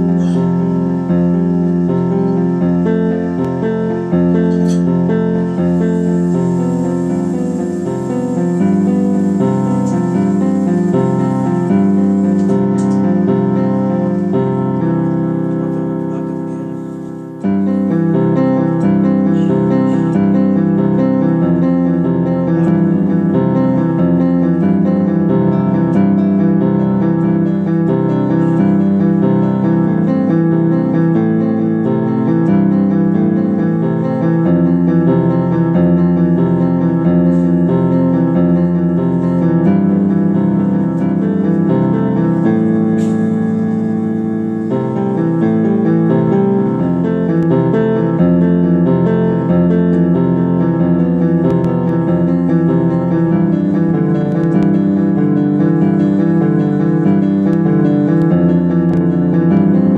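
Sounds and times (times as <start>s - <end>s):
piano chords: 0.0s - 59.9s.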